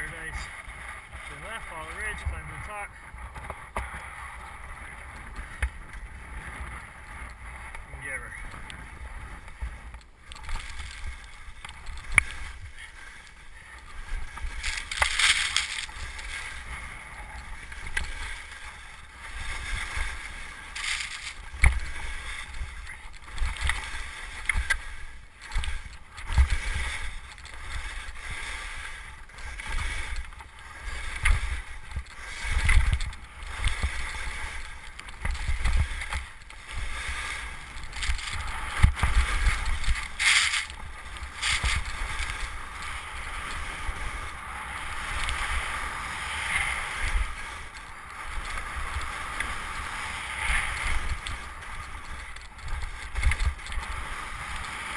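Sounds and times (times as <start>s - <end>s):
skis swishing through snow: 0.0s - 54.9s
wind rumbling on microphone: 0.0s - 54.9s.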